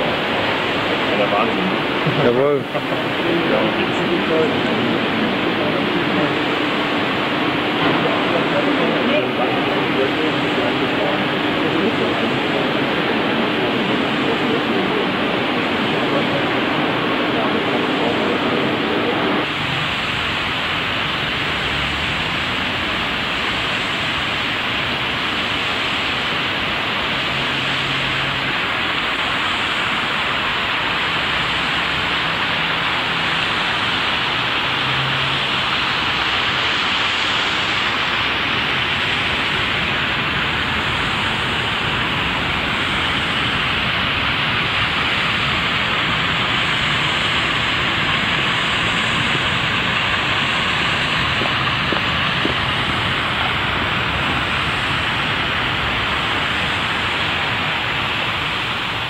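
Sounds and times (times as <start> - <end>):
water splashing in a fountain: 0.0 - 59.0.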